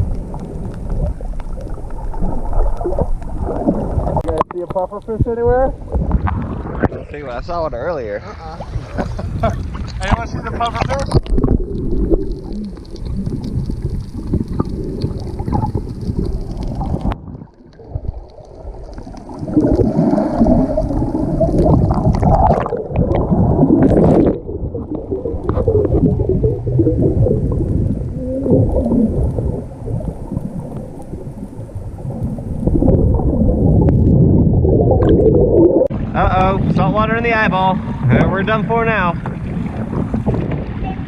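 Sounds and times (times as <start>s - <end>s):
underwater water churning and bubbling: 0.0s - 41.0s.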